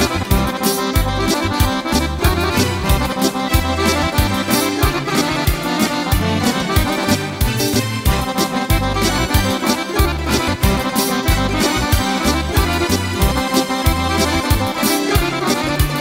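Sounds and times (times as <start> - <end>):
accordion melody: 0.0 - 16.0
bass: 0.0 - 16.0.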